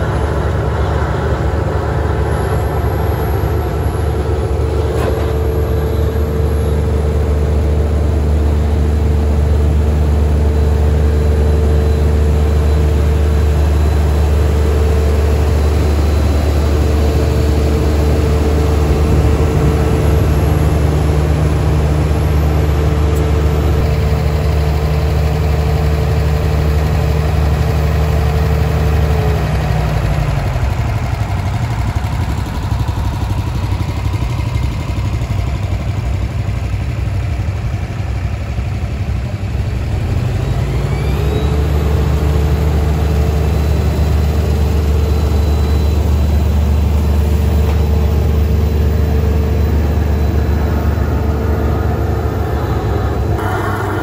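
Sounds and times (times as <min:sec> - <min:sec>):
drill engine humming: 0:00.0 - 0:37.1, 0:39.9 - 0:54.0
rough machinery noise: 0:00.0 - 0:54.0.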